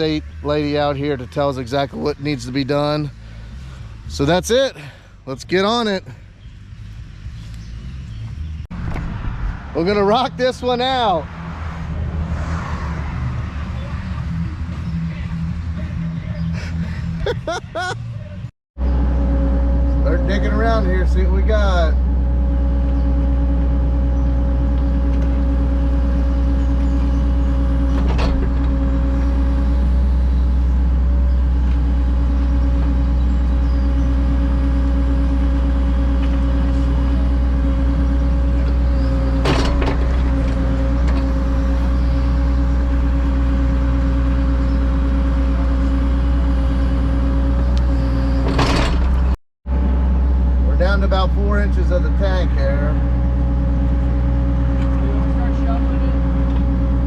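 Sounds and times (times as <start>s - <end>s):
excavator diesel engine running: 0.0s - 8.7s, 9.8s - 57.0s.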